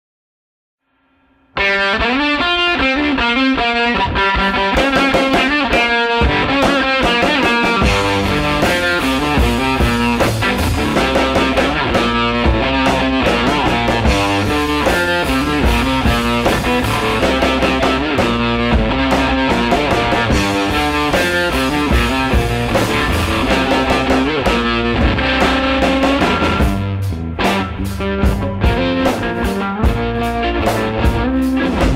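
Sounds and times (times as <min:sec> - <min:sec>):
distorted electric guitar music: 0:00.9 - 0:31.9.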